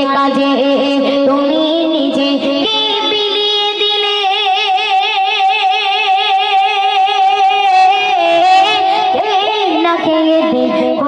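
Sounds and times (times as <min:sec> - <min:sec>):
woman singing into a microphone: 0:00.0 - 0:11.0.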